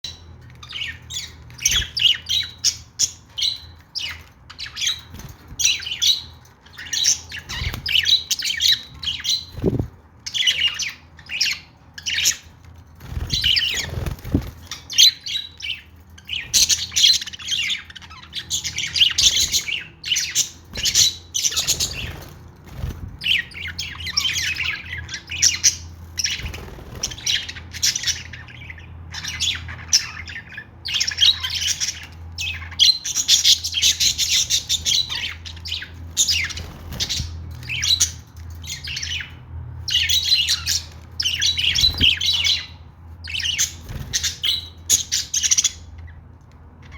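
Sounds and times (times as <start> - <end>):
budgies chattering and chirping: 0.0 - 46.9.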